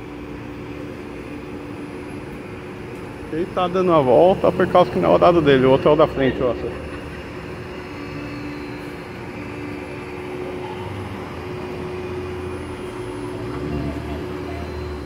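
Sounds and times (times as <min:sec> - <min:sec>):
bus engine low rumble: 0:00.0 - 0:15.0
mechanical hum with held tones: 0:00.0 - 0:15.0.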